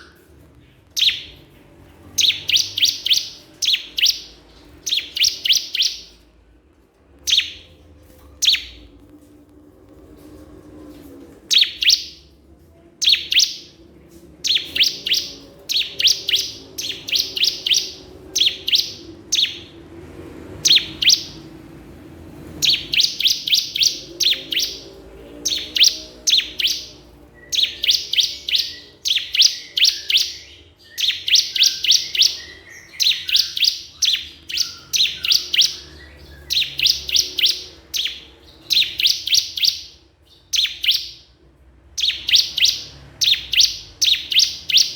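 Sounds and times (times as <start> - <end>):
bird singing rapid high chirps: 0.0 - 6.3, 7.2 - 7.8, 8.4 - 8.9, 11.5 - 12.3, 13.0 - 13.8, 14.4 - 19.8, 20.5 - 21.7, 22.5 - 44.9.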